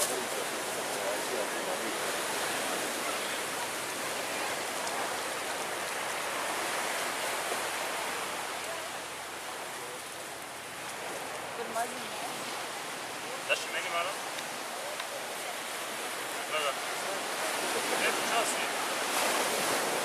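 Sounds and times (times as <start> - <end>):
surf washing onto beach: 0.0 - 20.0.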